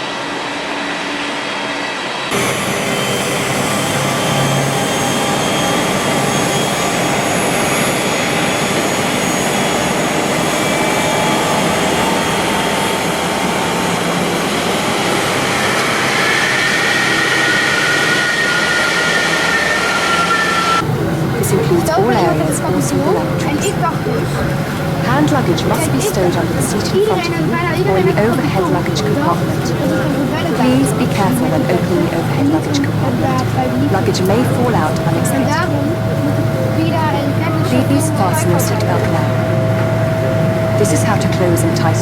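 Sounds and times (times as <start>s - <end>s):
jet engine whining tones: 0.0s - 42.0s
jet engine cabin hiss: 2.3s - 42.0s.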